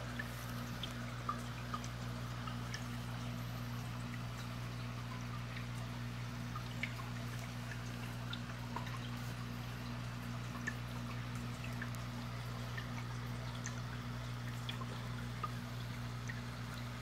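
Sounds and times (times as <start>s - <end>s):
water drips and bubble pops: 0.0s - 3.3s, 4.0s - 17.0s
low electric hum: 0.0s - 17.0s
trickling splashing water: 0.0s - 17.0s.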